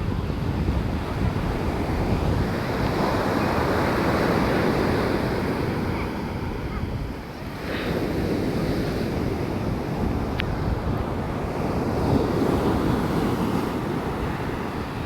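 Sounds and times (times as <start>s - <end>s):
wind buffeting microphone: 0.0s - 15.0s
sea waves washing in: 0.8s - 15.0s.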